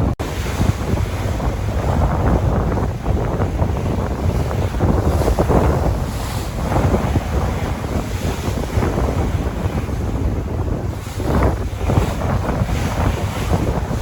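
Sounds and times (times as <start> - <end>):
sea waves washing in: 0.0 - 14.0
wind buffeting microphone: 0.0 - 14.0.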